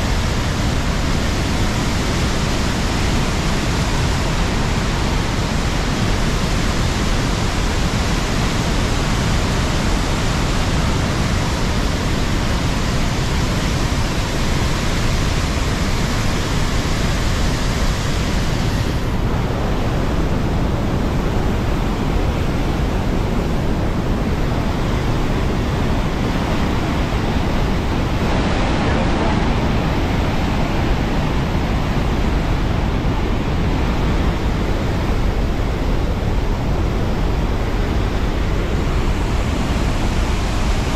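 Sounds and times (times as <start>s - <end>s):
waterfall rushing and crashing: 0.0s - 40.9s.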